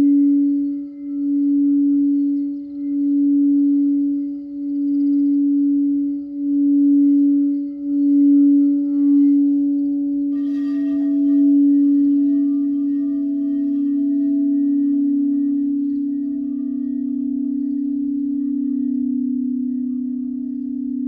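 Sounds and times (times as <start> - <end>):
higher singing bowl ringing: 0.0 - 21.0
low singing bowl tone: 0.0 - 21.0.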